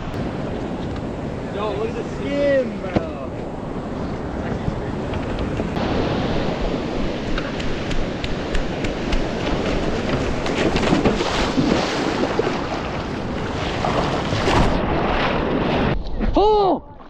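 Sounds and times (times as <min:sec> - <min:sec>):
ocean water rushing and splashing: 0:00.0 - 0:16.3
wind buffeting microphone: 0:00.0 - 0:16.6.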